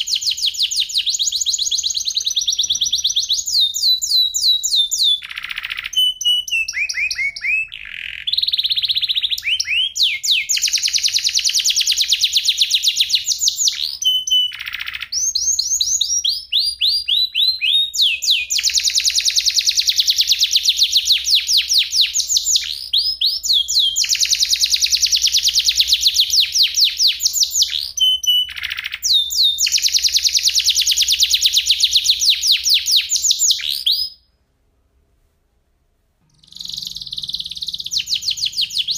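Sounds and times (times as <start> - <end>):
canary singing trills: 0.0 - 34.3, 36.3 - 38.9.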